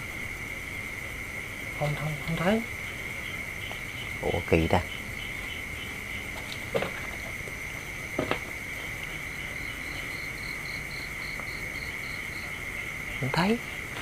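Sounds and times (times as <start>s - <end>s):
insect chirping in pulses: 0.0s - 14.0s
insects trilling: 0.0s - 14.0s.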